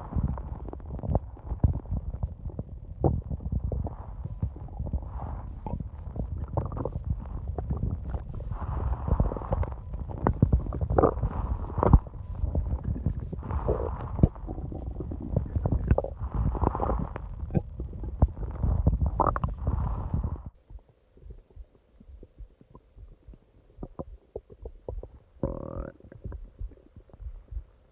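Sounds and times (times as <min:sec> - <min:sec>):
stomach growling: 0:00.0 - 0:27.9.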